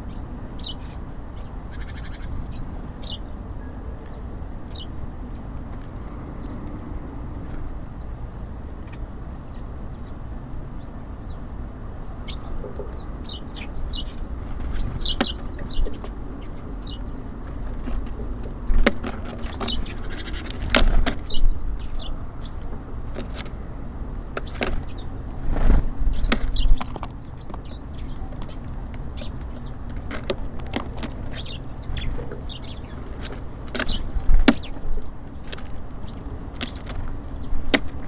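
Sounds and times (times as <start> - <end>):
city traffic rumble: 0.0 - 38.0
songbirds chirping: 0.0 - 38.0.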